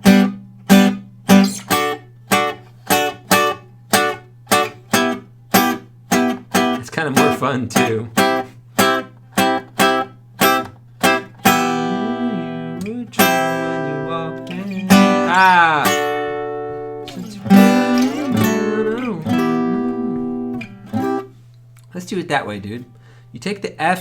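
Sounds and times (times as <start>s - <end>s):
acoustic guitar chords: 0.0s - 24.0s.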